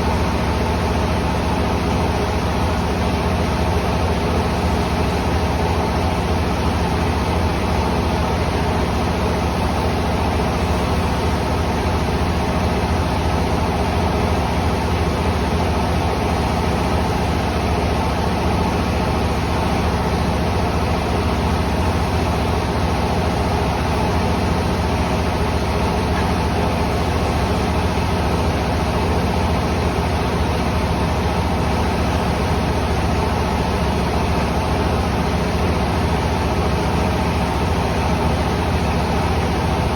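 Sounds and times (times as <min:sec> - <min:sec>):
mill machinery drone: 0:00.0 - 0:39.9.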